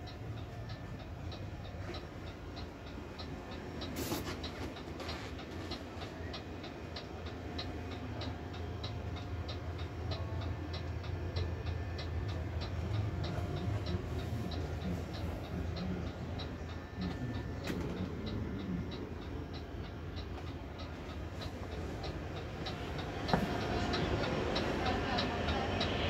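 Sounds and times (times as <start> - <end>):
low steady hum: 0.0 - 26.0
rapid mechanical ticking: 0.0 - 26.0.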